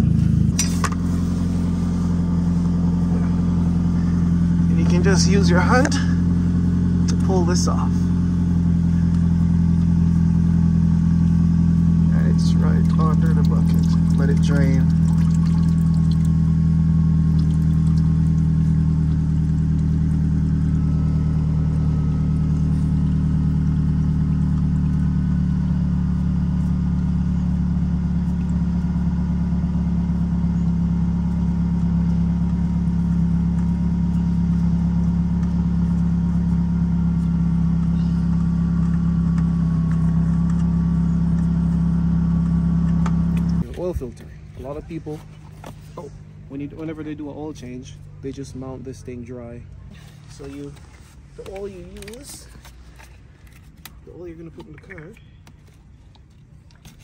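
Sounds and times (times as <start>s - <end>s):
low engine hum: 0.0s - 57.0s.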